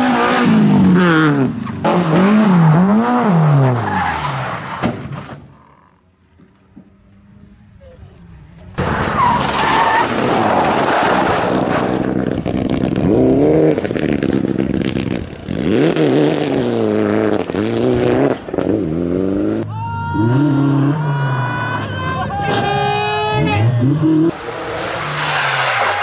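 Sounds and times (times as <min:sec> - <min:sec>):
rally car engine revving: 0:00.0 - 0:05.9, 0:06.8 - 0:26.0.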